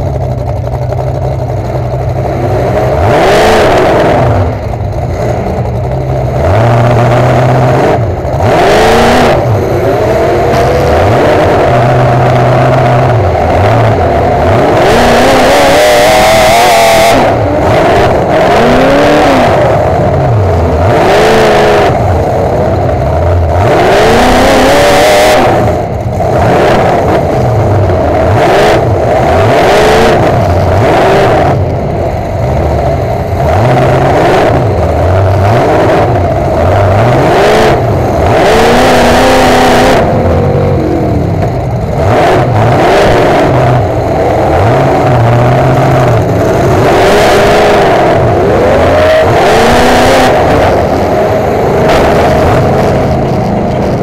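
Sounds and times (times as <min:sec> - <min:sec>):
truck engine revving hard: 0:00.0 - 0:54.0.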